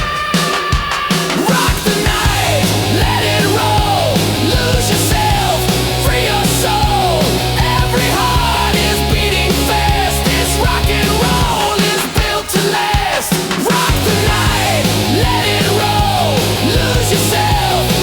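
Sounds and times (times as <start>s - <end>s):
instrumental rock music: 0.0s - 18.0s.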